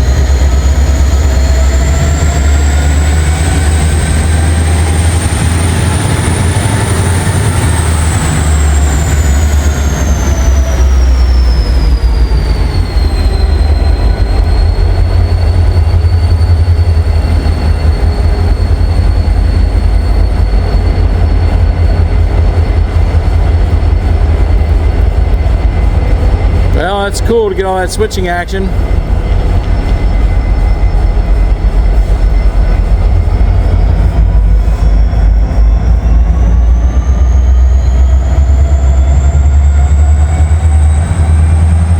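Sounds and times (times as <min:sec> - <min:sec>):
freight train rumbling: 0:00.0 - 0:41.9
high-pitched train whine: 0:00.0 - 0:41.9.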